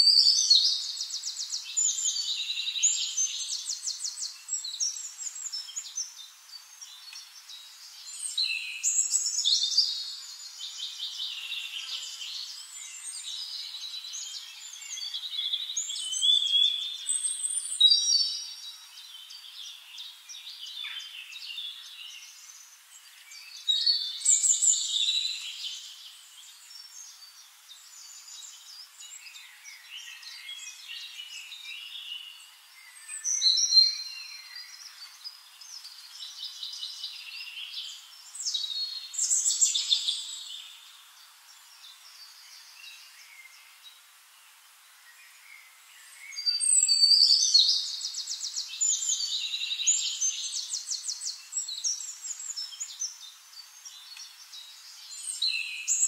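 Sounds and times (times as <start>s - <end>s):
birds singing and chirping: 0.0s - 56.0s.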